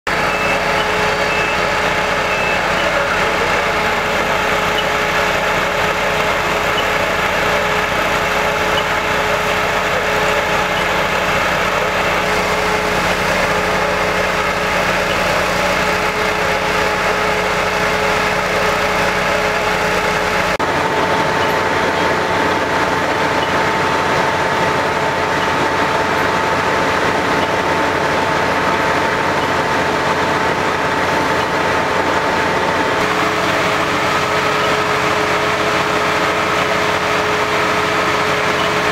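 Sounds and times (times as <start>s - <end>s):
fire truck engine idling: 0.1s - 38.9s.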